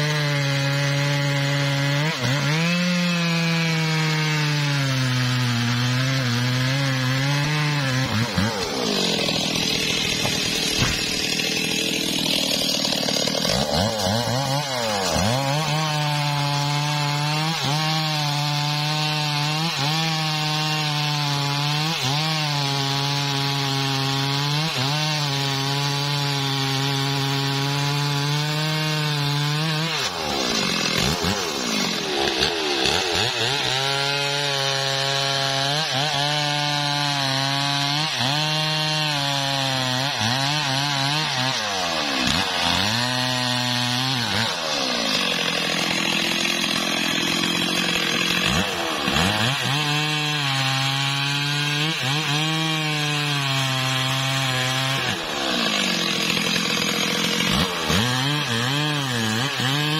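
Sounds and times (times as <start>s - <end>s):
chainsaw sawing wood: 0.0s - 59.9s.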